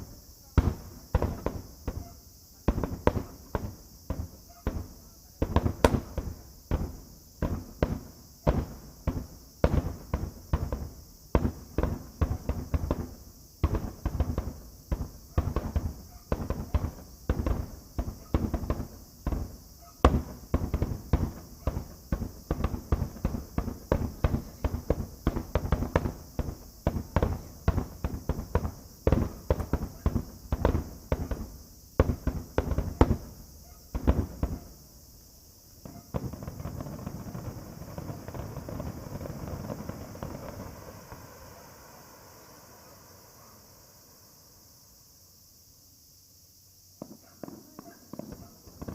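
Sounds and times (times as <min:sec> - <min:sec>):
fireworks bursting: 0:00.0 - 0:45.0, 0:47.0 - 0:48.9.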